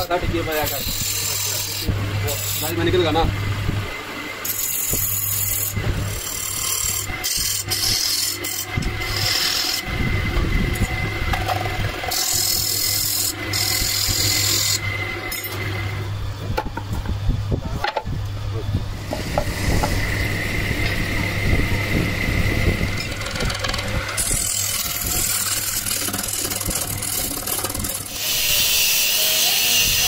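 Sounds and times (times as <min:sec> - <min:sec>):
lathe low hum: 0:00.0 - 0:30.0.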